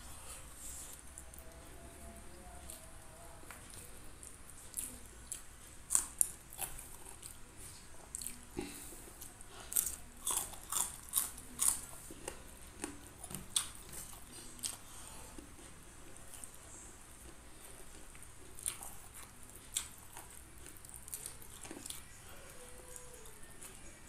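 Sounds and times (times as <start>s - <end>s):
crunching of bean being chewed: 2.6s - 23.9s.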